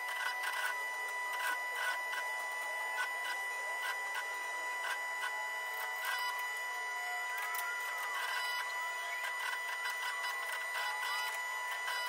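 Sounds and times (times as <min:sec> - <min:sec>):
steady high tone: 0:00.0 - 0:12.0.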